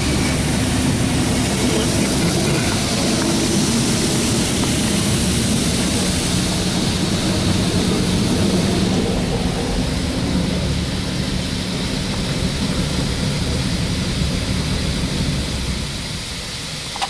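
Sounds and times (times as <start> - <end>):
high-pressure water spraying on car: 0.0 - 17.0
low hum: 0.0 - 17.0.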